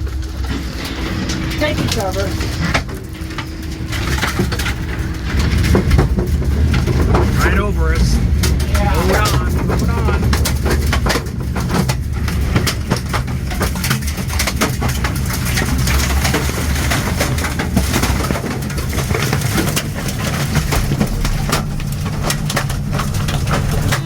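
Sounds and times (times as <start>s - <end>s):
debris striking building: 0.0s - 24.0s
deep rumble of wind: 0.0s - 24.0s.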